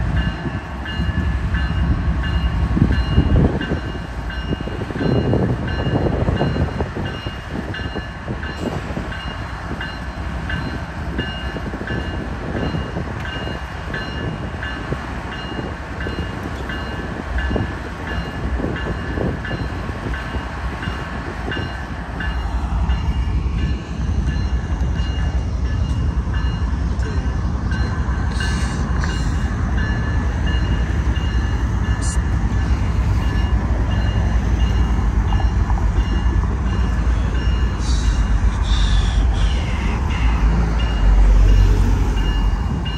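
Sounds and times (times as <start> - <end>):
crossing warning bell ringing: 0.0 - 42.9
diesel locomotive rumbling: 0.0 - 42.9.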